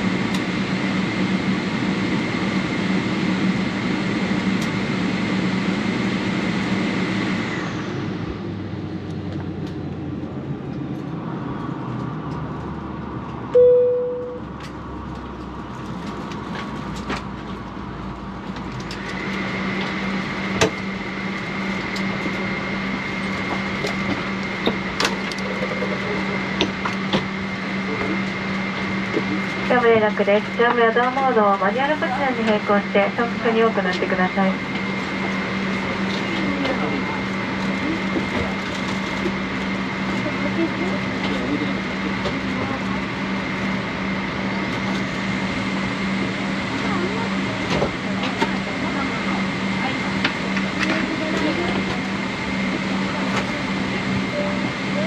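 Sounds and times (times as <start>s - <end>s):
airliner cabin ventilation hum: 0.0s - 12.0s, 13.2s - 55.0s.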